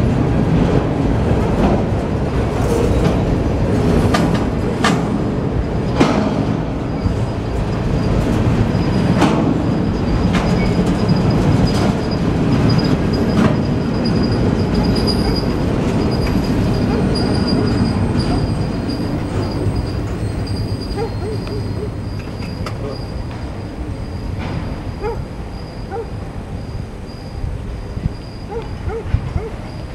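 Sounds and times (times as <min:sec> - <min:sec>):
train wheels rumbling on rail: 0:00.0 - 0:29.9
high wheel squeal: 0:05.6 - 0:29.9.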